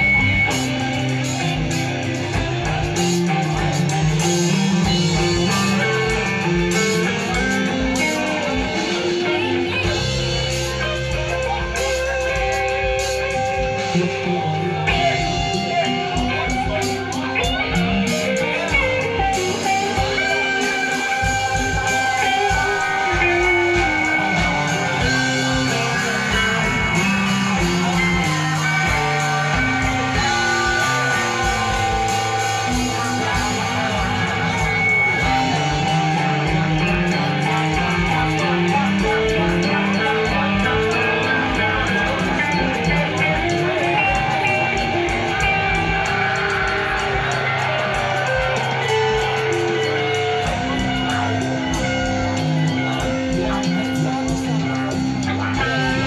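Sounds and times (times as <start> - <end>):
bass line: 0.0 - 56.0
drums: 0.0 - 56.0
electric guitars: 0.0 - 56.0.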